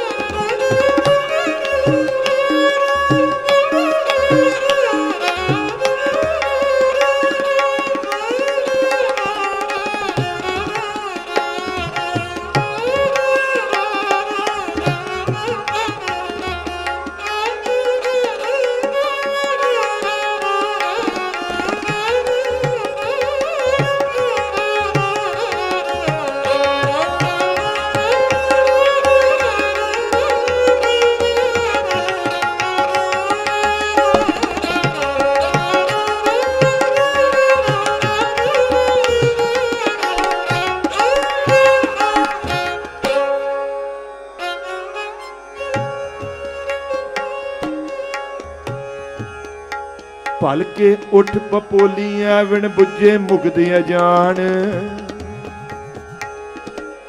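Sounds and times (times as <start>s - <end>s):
tabla drumming: 0.0s - 43.3s, 45.6s - 57.0s
bowed string melody: 0.0s - 57.0s.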